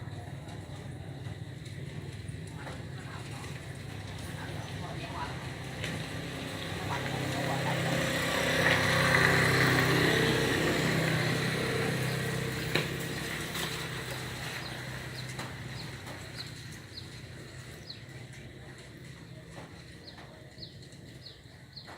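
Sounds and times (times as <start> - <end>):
motor vehicle passing by: 0.0 - 21.9.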